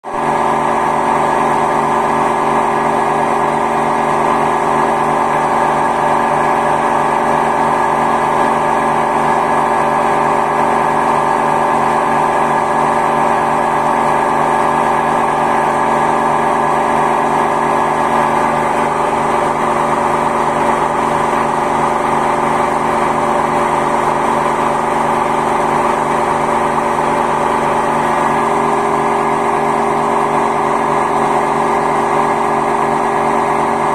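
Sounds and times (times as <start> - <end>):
washing machine spin cycle roar: 0.0 - 33.9.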